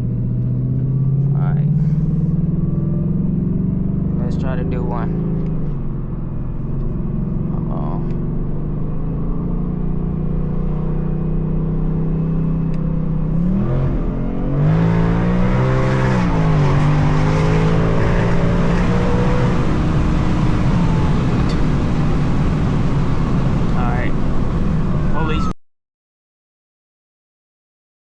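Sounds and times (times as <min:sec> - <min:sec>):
car engine revving: 0:00.0 - 0:25.5.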